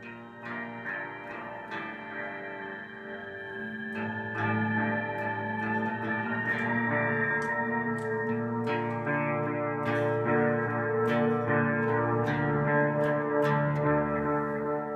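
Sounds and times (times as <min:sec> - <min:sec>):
ambient electric bass notes: 0:00.0 - 0:14.9.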